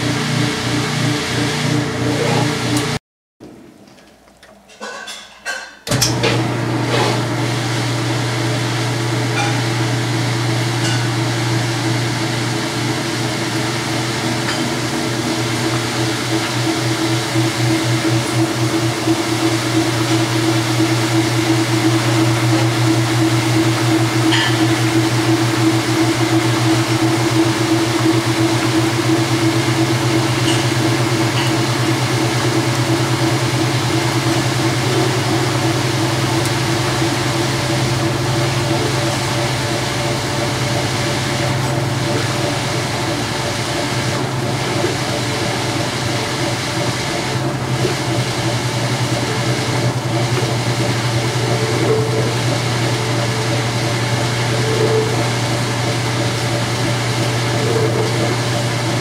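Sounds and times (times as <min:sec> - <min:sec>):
motor hum: 0:00.0 - 0:03.6, 0:05.9 - 0:59.0
drain pump running: 0:00.0 - 0:04.5, 0:05.8 - 0:59.0
washer basket spinning: 0:00.0 - 0:59.0.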